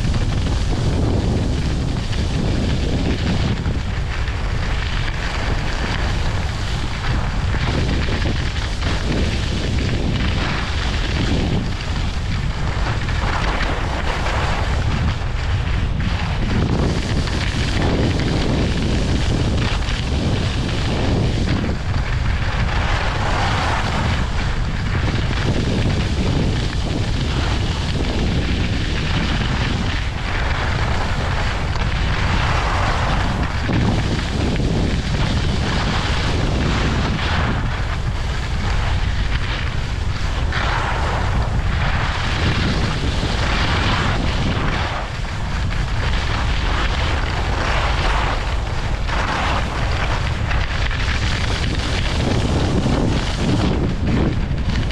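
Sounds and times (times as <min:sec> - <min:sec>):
skis scraping on snow: 0:00.0 - 0:54.9
wind rumble on microphone: 0:00.0 - 0:54.9.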